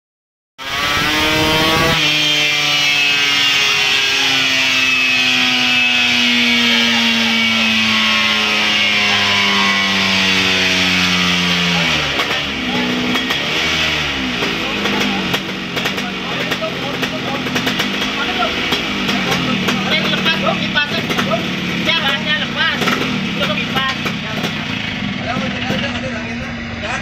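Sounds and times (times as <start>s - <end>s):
scooter engine revving: 0.6s - 27.0s.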